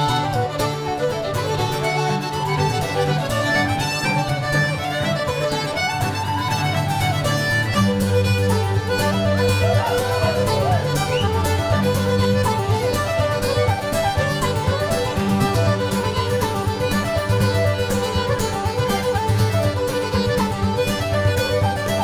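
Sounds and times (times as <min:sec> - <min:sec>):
accordion: 0:00.0 - 0:22.0
bowed low strings: 0:00.0 - 0:22.0
fiddle: 0:00.0 - 0:22.0
guitar: 0:00.0 - 0:22.0.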